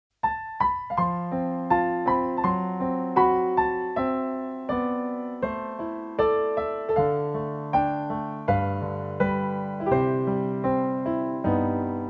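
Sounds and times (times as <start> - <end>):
slow piano melody: 0.2 - 12.0.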